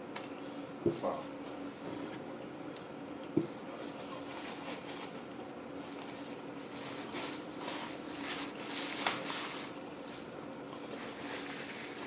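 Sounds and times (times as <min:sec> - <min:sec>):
steady low hum: 0:00.0 - 0:12.0
rustling and scraping of eating: 0:00.9 - 0:12.0.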